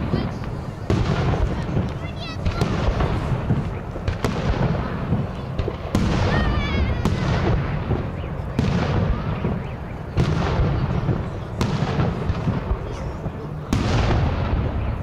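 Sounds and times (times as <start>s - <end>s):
firework shells booming: 0.0s - 15.0s
rumble of firework bursts: 0.0s - 15.0s.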